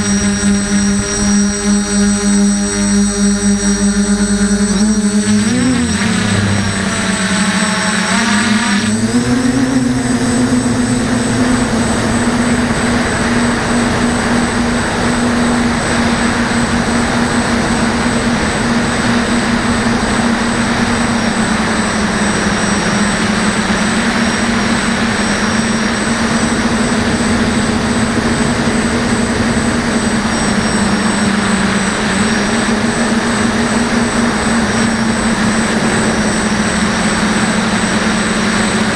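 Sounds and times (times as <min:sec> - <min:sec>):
drone motors buzzing: 0:00.0 - 0:38.9
wind noise: 0:00.0 - 0:38.9.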